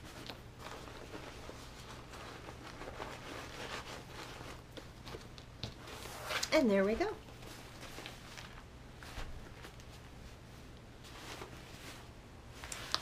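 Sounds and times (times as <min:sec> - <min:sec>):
fabric bag rustling: 0:00.0 - 0:13.0.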